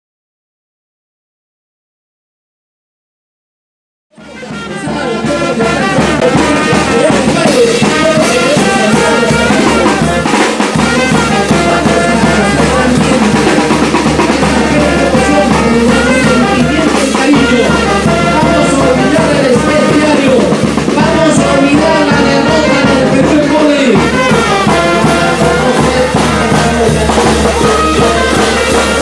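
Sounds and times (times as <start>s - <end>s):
brass band playing dance music: 4.1s - 29.0s.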